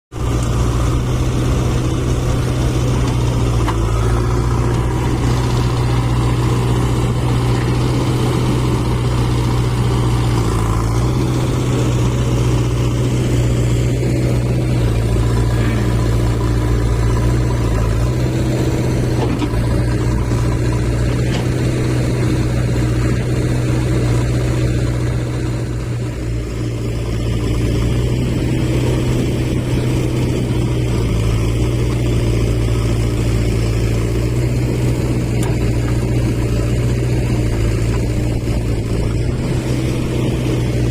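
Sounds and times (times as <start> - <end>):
tractor diesel engine running: 0.1 - 40.9.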